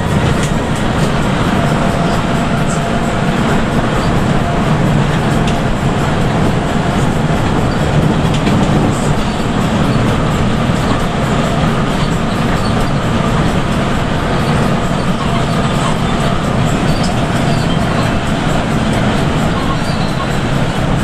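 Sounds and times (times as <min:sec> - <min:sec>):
bus engine drone: 0:00.0 - 0:21.0
tyre and road noise: 0:00.0 - 0:21.0.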